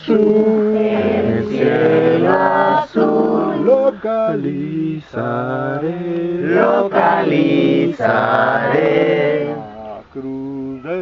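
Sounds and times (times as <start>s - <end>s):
person singing slow song: 0.0s - 11.0s.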